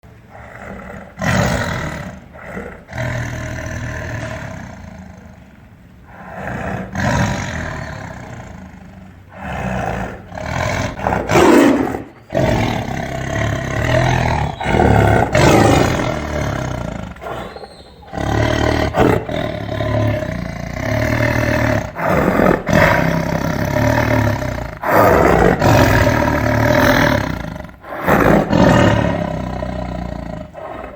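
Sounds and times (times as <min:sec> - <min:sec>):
tiger roaring: 0:00.0 - 0:30.9.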